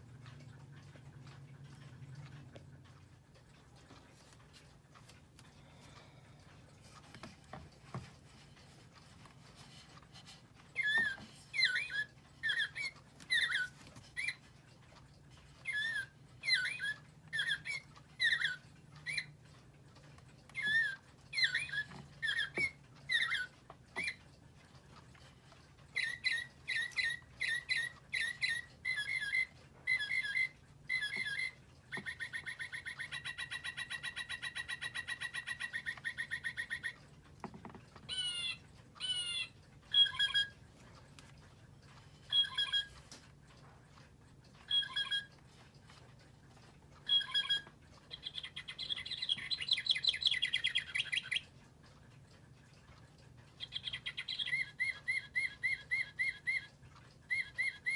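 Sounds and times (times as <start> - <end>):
recorded birdsong from clock speaker: 6.8 - 57.9.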